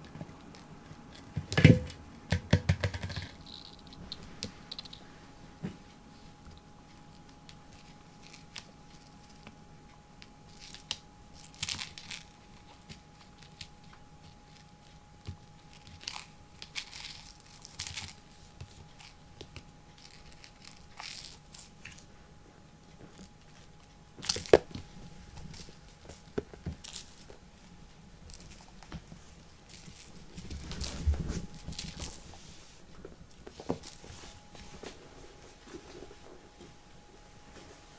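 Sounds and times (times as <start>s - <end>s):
faint steady hum: 0.0s - 37.9s
rustling and crinkling: 2.8s - 9.6s, 10.2s - 37.9s.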